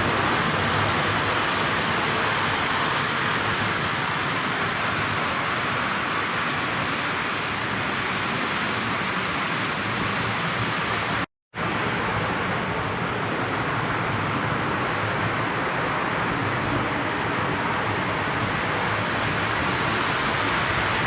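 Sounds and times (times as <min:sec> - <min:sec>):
toy train rumbling on track: 0:00.0 - 0:21.0.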